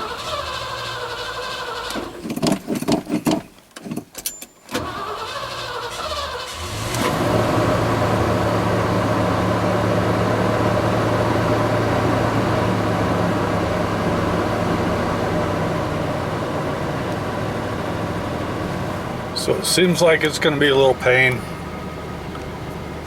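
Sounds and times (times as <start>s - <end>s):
car engine starting and running: 0.0s - 4.1s, 4.7s - 23.0s.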